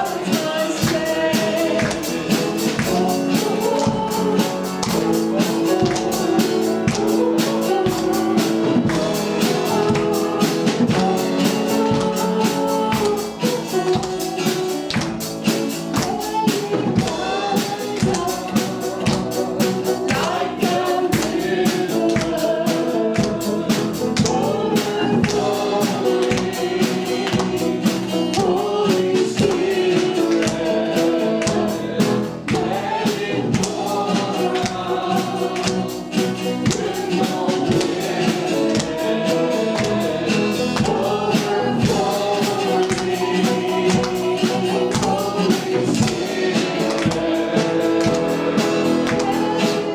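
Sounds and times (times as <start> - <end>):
band with percussion beat: 0.0 - 49.9
group singing gospel song: 0.0 - 49.9.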